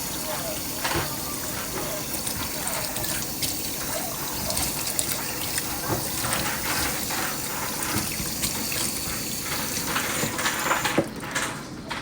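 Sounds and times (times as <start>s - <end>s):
running water splashing on hair: 0.0s - 11.0s.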